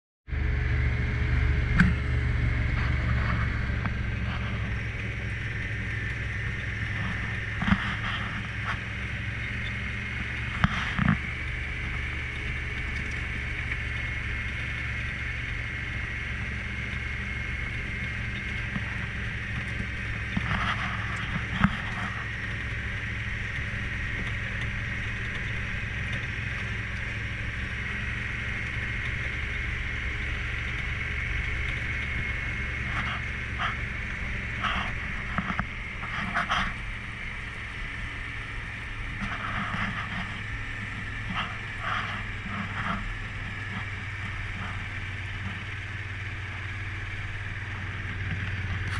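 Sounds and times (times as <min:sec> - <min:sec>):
utility vehicle engine whining: 0:00.3 - 0:48.9.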